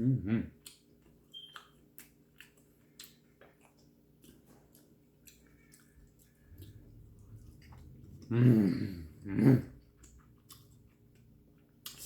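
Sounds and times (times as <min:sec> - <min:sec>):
low steady hum: 0:00.0 - 0:12.0
person chewing food: 0:00.5 - 0:12.0.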